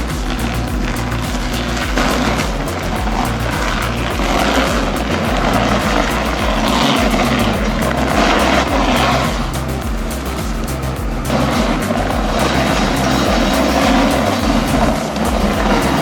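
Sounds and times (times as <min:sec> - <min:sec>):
music with bass beat: 0:00.0 - 0:16.0.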